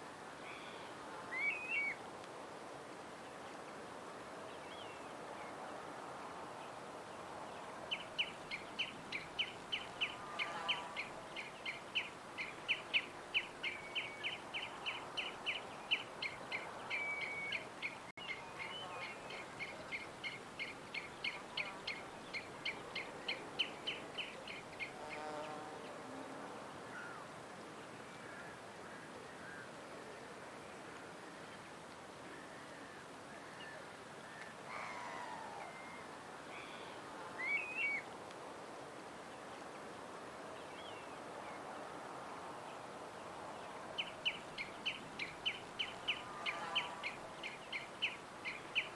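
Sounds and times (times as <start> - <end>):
outdoor background hiss: 0.0 - 48.9.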